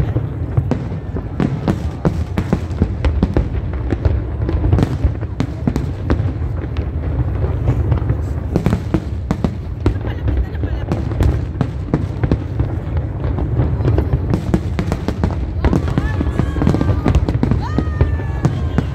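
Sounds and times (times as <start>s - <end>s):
fireworks booming and cracking: 0.0s - 18.9s.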